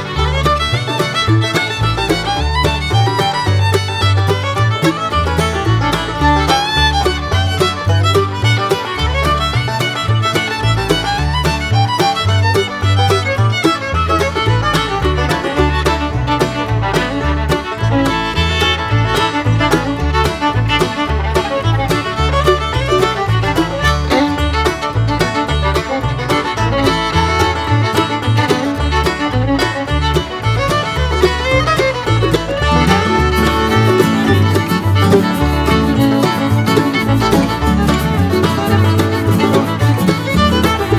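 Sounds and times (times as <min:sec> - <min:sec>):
fiddle-led country music: 0:00.0 - 0:40.9
plucked-string beat: 0:00.0 - 0:40.9.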